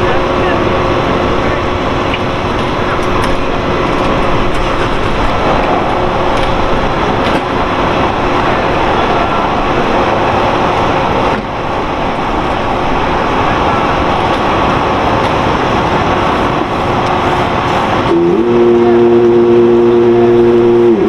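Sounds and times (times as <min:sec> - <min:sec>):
fire pump truck engine running: 0:00.0 - 0:21.0.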